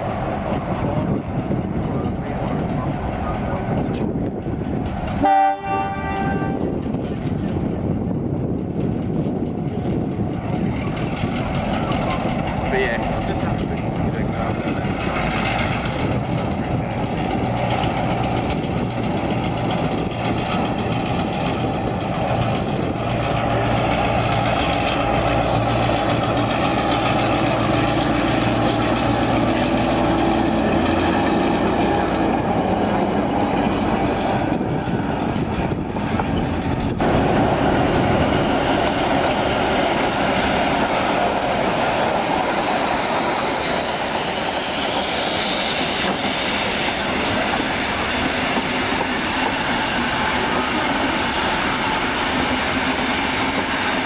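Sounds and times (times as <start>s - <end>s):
diesel locomotive humming past: 0.0s - 54.0s
train rolling on rails: 0.0s - 54.0s.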